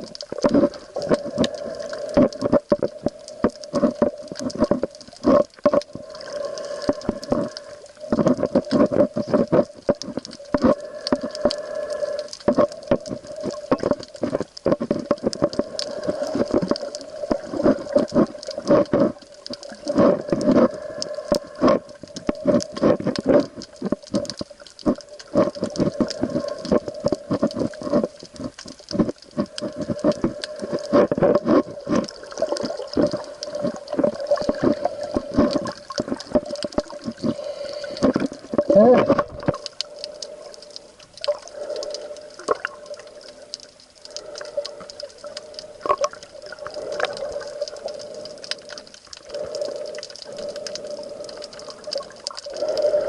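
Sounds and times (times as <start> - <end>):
sea water moving: 0.0 - 53.0.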